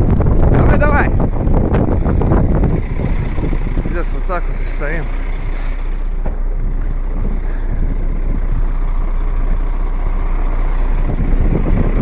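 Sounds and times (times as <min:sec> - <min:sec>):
blizzard wind buffeting microphone: 0:00.0 - 0:12.0
heavy truck engine running: 0:00.0 - 0:12.0.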